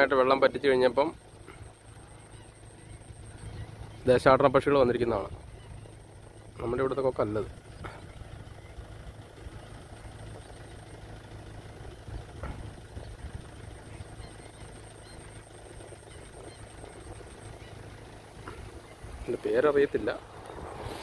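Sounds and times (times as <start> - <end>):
distant motor humming: 0.0 - 21.0
rumbling background: 0.0 - 21.0.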